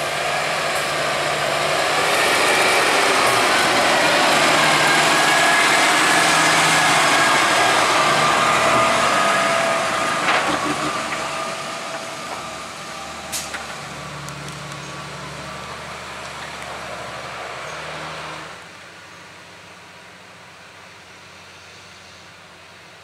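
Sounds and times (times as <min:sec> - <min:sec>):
tractor diesel engine passing: 0:00.0 - 0:22.9.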